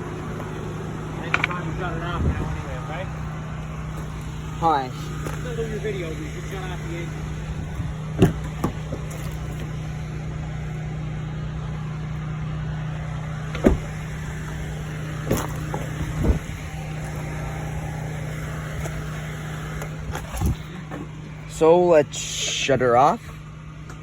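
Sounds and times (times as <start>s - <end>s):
engine idling hum: 0.0s - 24.0s.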